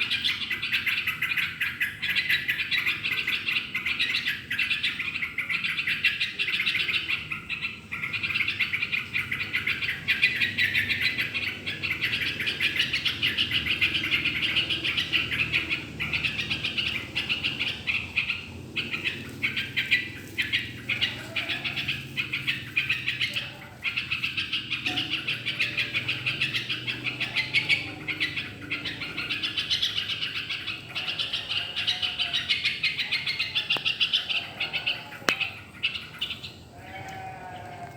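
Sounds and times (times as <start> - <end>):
bird chattering rapidly: 0.0 - 36.6.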